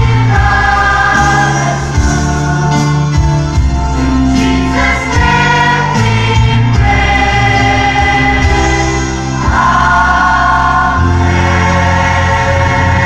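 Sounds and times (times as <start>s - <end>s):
children's choir singing: 0.0s - 3.4s, 4.3s - 13.0s.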